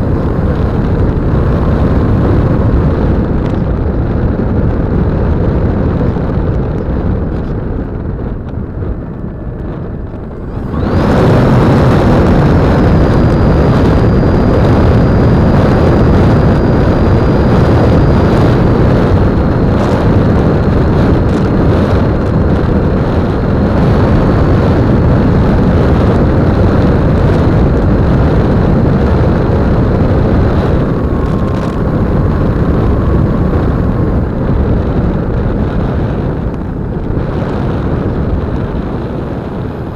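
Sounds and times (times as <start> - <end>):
model plane motor whining: 0.0 - 39.9
wind rush: 0.0 - 39.9.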